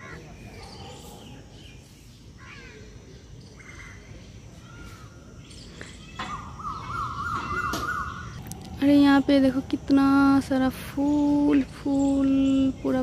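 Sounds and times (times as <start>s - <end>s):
birds chirping: 0.0s - 13.0s
low outdoor background: 0.0s - 13.0s.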